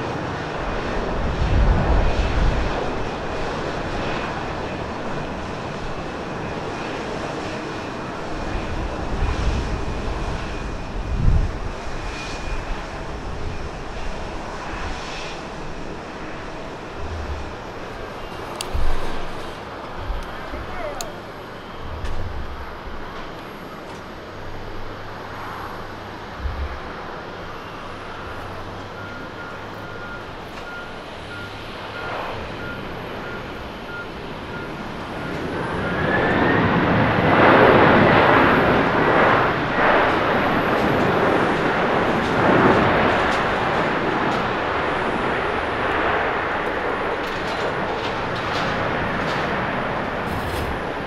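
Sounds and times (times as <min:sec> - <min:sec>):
jet engine whine: 0:00.0 - 0:51.0.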